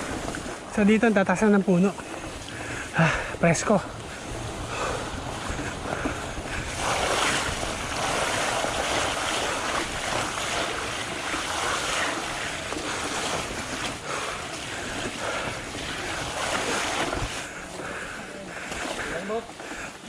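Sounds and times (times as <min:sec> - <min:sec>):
wind on microphone: 0:00.0 - 0:19.2
bike tyres rolling on dirt: 0:00.0 - 0:20.0.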